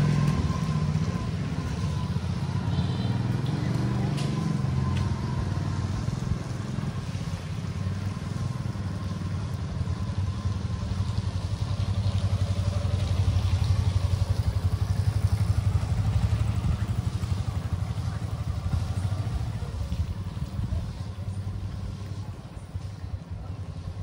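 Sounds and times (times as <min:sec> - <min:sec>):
motor scooter engine running: 0:00.0 - 0:24.0.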